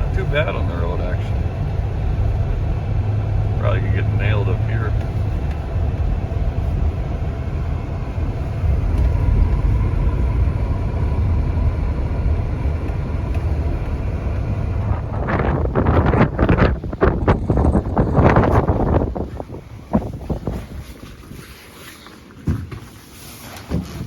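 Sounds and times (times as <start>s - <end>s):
faint steady whine: 0.0s - 19.5s
wind buffeting microphone: 0.0s - 21.6s
vehicle engine and tyre rumble: 0.0s - 24.0s.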